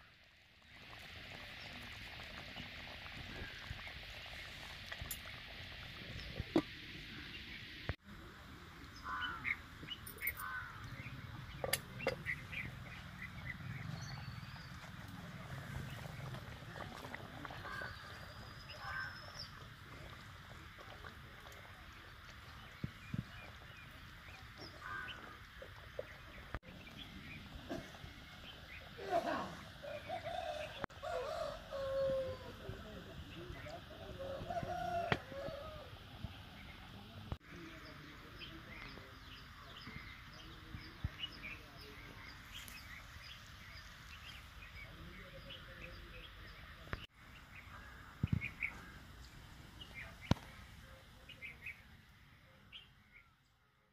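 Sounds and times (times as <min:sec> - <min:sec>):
steady outdoor hiss: 0:00.0 - 0:53.9
small birds chirping: 0:00.8 - 0:30.9, 0:32.9 - 0:53.9.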